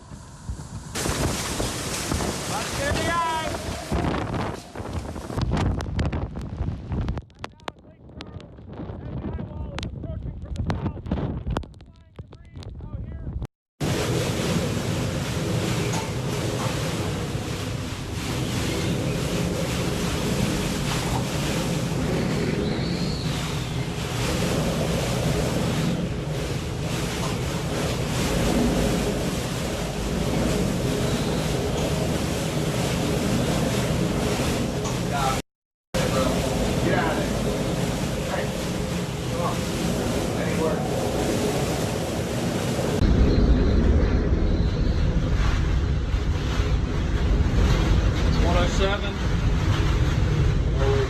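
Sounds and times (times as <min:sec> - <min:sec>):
strong wind buffeting microphone: 0:00.0 - 0:35.4, 0:36.0 - 0:51.0.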